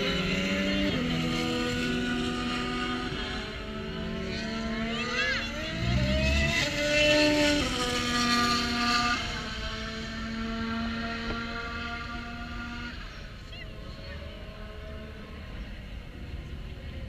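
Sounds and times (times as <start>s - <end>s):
car engine accelerating: 0.0s - 17.0s
race car engines: 0.0s - 17.0s.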